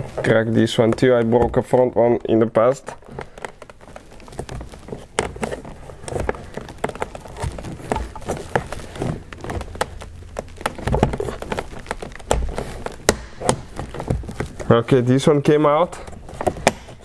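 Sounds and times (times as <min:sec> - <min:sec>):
plastic trim clicks and creaks: 0:00.0 - 0:15.1, 0:15.8 - 0:17.0.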